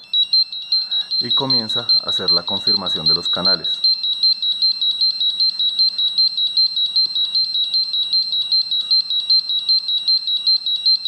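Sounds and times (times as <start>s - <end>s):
rapid high-pitched alarm beeping: 0.0s - 11.0s.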